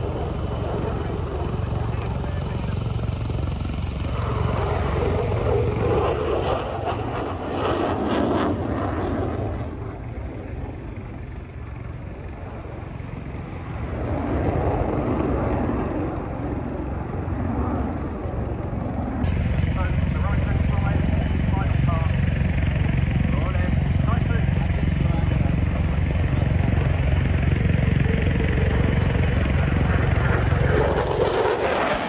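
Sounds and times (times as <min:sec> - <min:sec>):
aircraft engine: 0:00.0 - 0:32.0.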